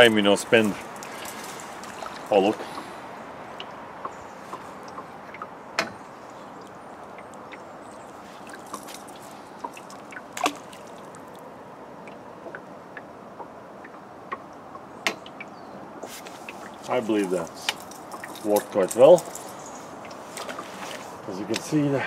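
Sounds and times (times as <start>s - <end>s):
river water hissing: 0.0s - 22.0s
lure splashing on water: 0.6s - 21.7s.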